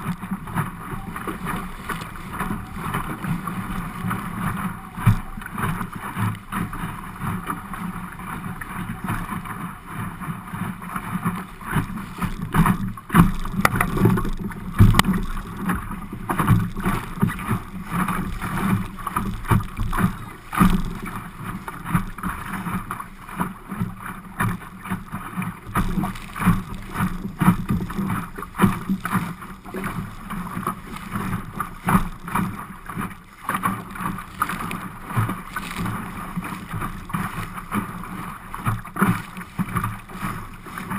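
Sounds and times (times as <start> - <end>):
water slapping against boat hull: 0.0 - 40.9.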